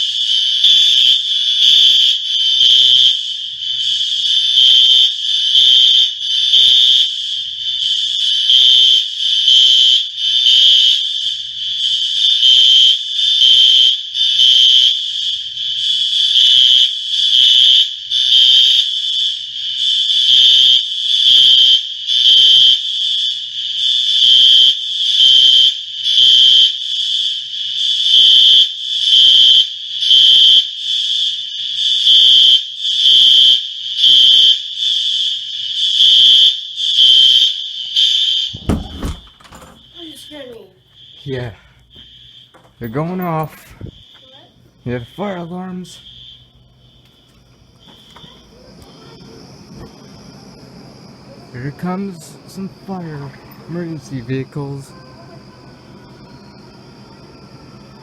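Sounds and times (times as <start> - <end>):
fire alarm pulsing tone: 0.0 - 58.0.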